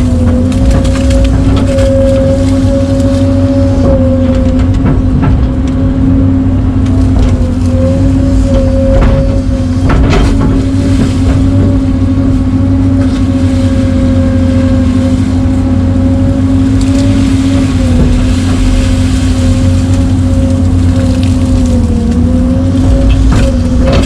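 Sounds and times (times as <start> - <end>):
diesel engine running: 0.0 - 24.0
engine knocks: 0.0 - 24.0.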